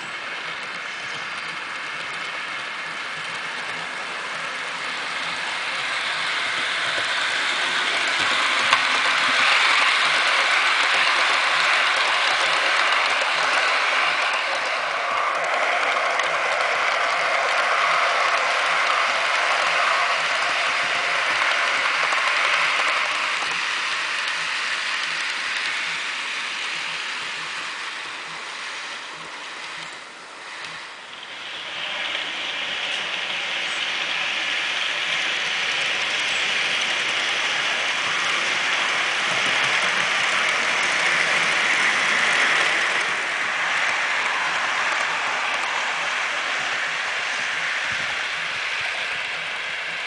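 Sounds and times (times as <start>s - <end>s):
model train wheels rattling: 0.0s - 50.0s.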